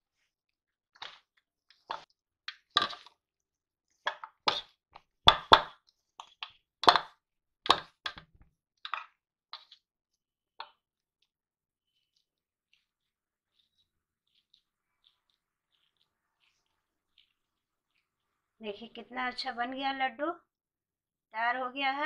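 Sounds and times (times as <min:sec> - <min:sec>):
hands mixing in metal bowl: 0:00.2 - 0:19.9.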